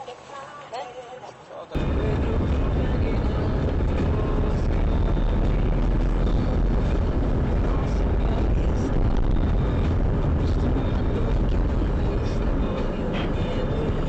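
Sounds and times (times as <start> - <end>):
car engine and road rumble: 1.7 - 14.0.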